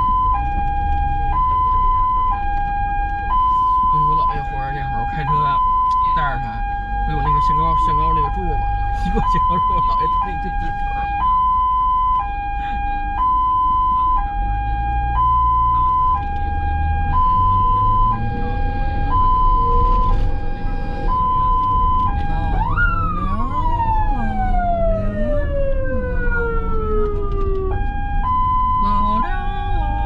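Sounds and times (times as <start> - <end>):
ambulance siren: 0.0 - 30.0
low engine and road rumble: 0.0 - 30.0.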